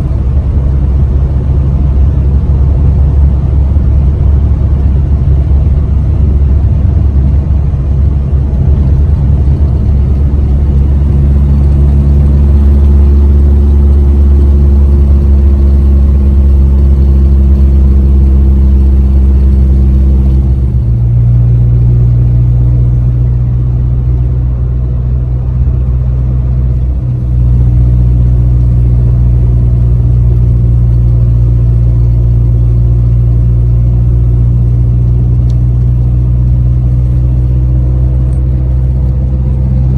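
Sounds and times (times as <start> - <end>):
pickup truck engine drone: 0.0 - 39.9
road noise: 0.0 - 39.9.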